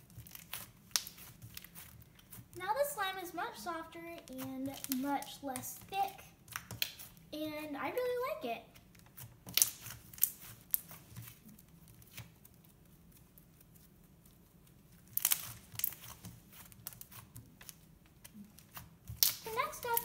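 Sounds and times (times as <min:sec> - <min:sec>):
hands handling slime: 0:00.0 - 0:03.2, 0:04.3 - 0:07.3, 0:08.7 - 0:20.0
slime crackling and popping: 0:00.0 - 0:20.0.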